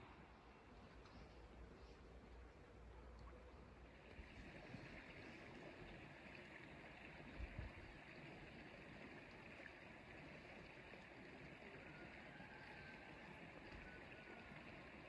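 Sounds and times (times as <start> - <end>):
creek water trickling: 0.0 - 15.0.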